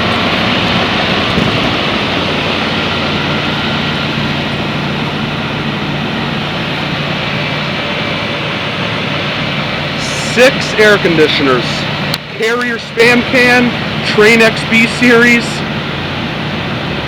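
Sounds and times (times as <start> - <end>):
condenser fan air rushing: 0.0 - 17.0
low steady hum: 0.0 - 17.0.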